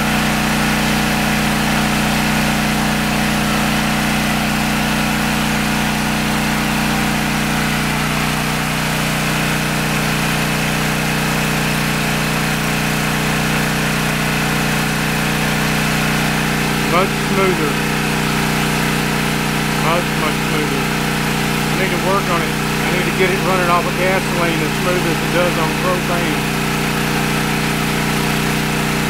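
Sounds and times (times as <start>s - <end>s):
generator engine running: 0.0s - 29.0s.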